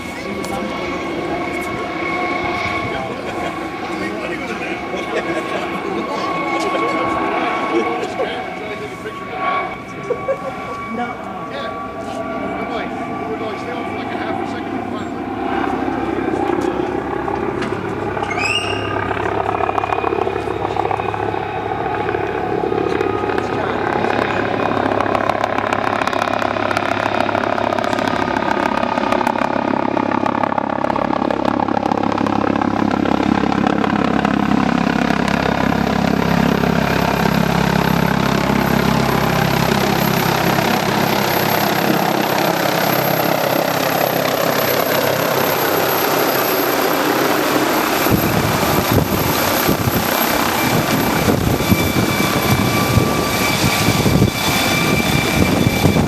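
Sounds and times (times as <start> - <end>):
helicopter rotor beat: 0.0 - 56.0
high turbine whine: 0.0 - 56.0.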